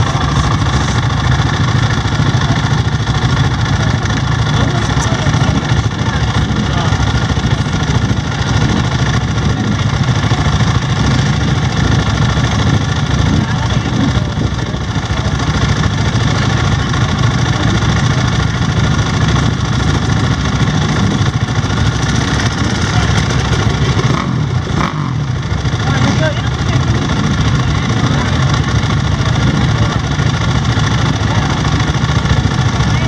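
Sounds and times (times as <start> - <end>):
dirt bike engine idling: 0.0 - 33.0.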